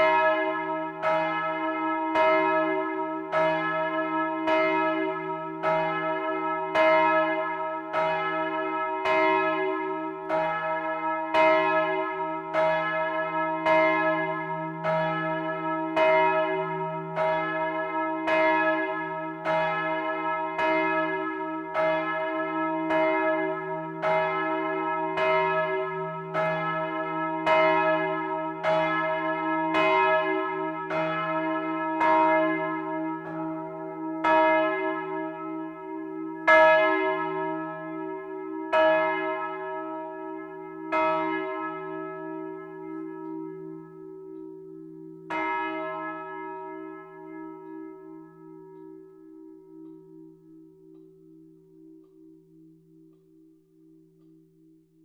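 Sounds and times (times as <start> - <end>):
church bells ringing: 0.0 - 54.7.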